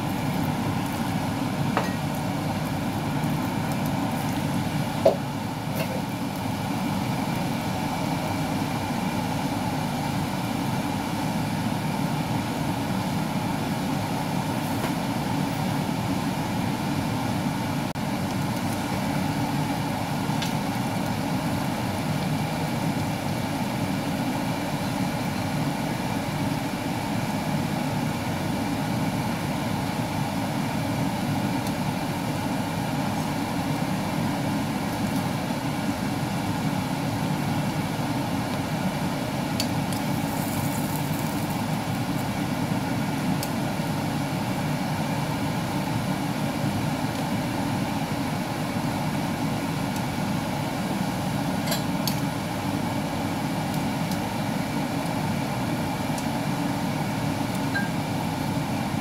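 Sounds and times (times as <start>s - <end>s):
broth boiling in a pot: 0.0s - 59.0s
gas stove rushing hum: 0.0s - 59.0s.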